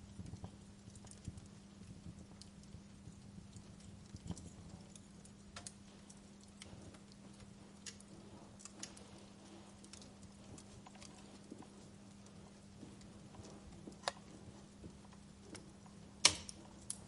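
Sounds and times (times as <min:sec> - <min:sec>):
fireplace crackling: 0:00.0 - 0:17.0
steady low hum: 0:00.0 - 0:17.0.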